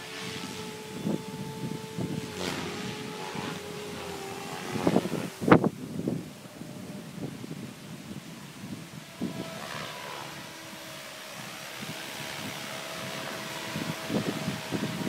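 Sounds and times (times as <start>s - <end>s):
model helicopter rotor whine: 0.0s - 15.0s
wind buffeting microphone: 0.0s - 15.0s.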